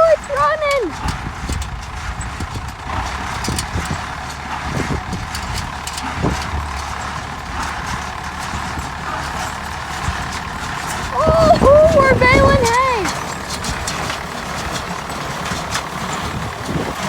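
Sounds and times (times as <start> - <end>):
baler mechanism clanking: 0.0 - 17.0
tractor engine rumble: 0.0 - 17.0.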